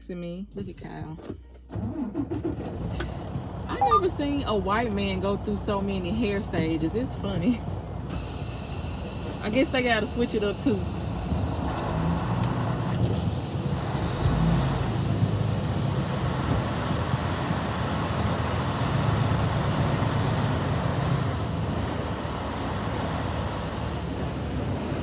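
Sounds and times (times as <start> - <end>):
truck diesel engine rumbling: 0.0 - 25.0.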